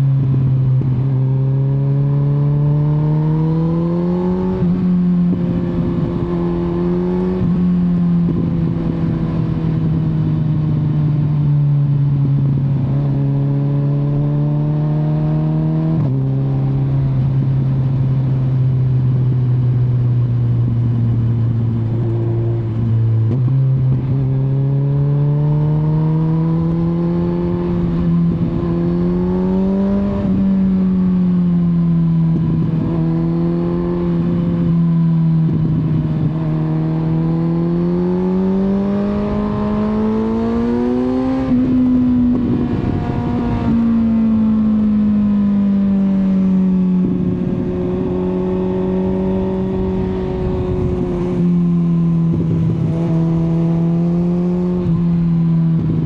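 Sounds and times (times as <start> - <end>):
wind noise on microphone: 3.8 - 45.8, 46.4 - 56.0.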